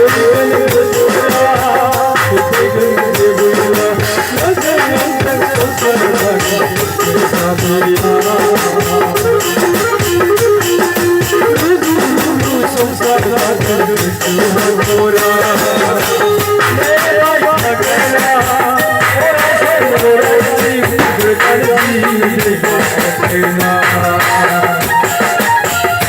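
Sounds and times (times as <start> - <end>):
percussion beat: 0.0 - 26.0.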